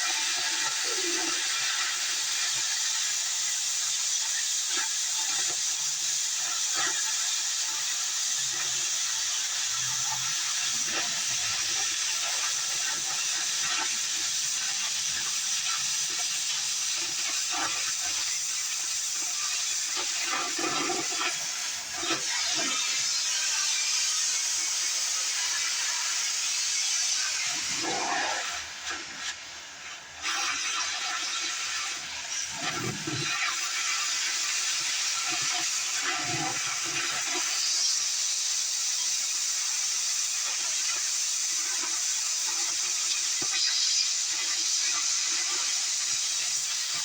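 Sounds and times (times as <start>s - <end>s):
crackles of cutting metal: 0.0s - 47.0s
cutting torch hissing: 0.0s - 47.0s.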